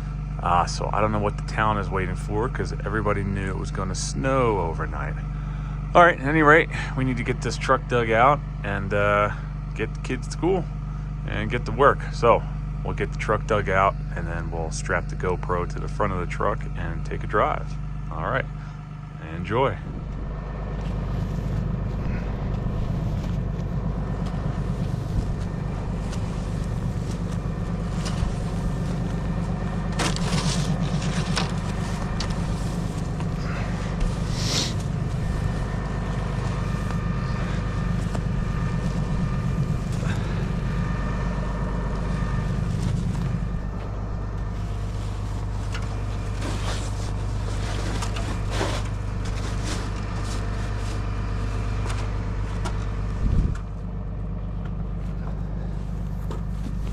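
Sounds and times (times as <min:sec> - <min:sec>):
snowblower engine running: 0:00.0 - 0:56.9.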